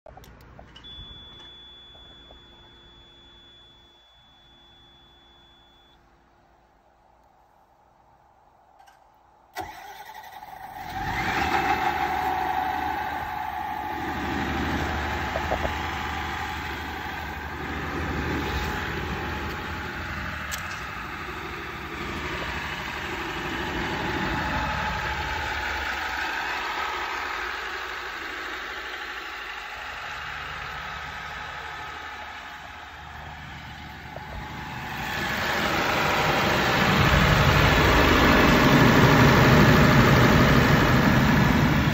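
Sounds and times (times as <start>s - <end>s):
diesel generator starting and running: 0.1s - 6.9s, 8.8s - 41.9s.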